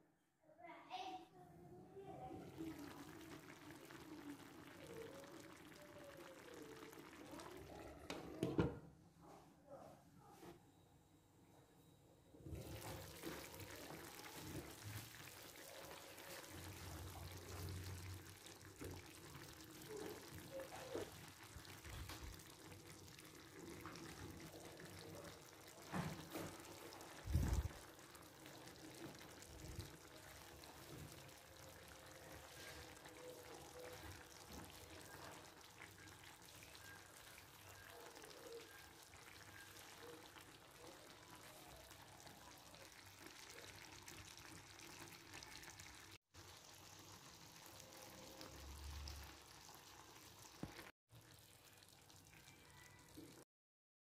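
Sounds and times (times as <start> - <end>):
food sizzling in a frying pan: 2.3 - 8.4, 12.5 - 53.4.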